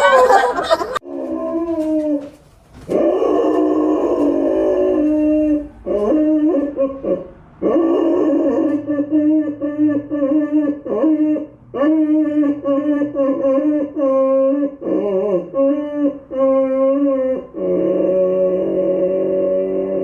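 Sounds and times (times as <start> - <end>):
dog howling: 1.0 - 20.0.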